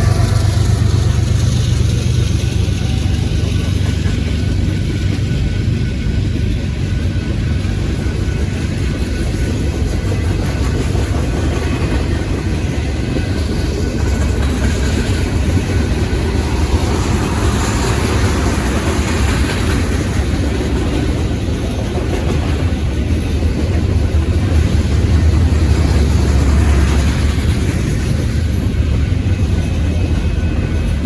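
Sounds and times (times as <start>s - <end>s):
freight train rumbling past: 0.0s - 31.0s.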